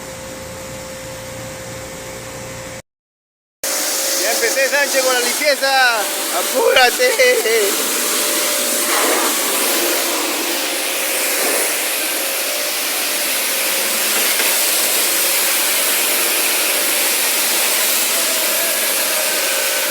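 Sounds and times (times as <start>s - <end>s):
industrial machinery hiss: 3.6s - 19.9s.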